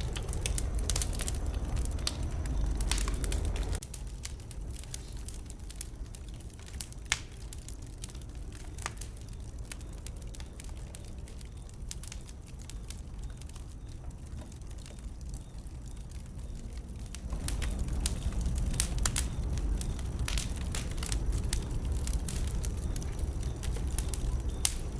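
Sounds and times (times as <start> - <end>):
bonfire crackling and popping: 0.0 - 24.9
low steady rumble: 0.0 - 24.9.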